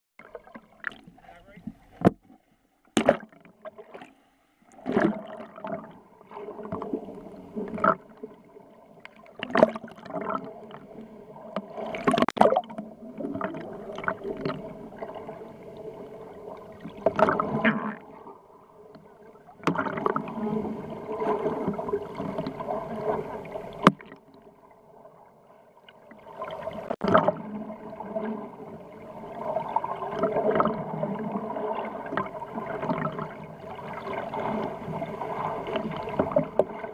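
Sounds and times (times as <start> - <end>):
water gurgling and sloshing: 0.2 - 36.9.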